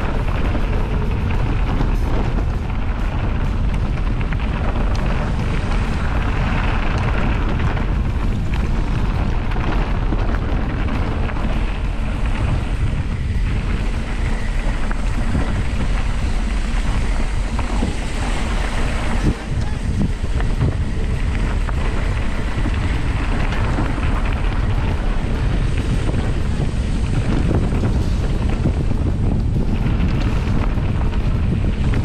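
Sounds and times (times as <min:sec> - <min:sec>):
bike clicks and rattles: 0:00.0 - 0:32.0
wind buffeting microphone: 0:00.0 - 0:32.0.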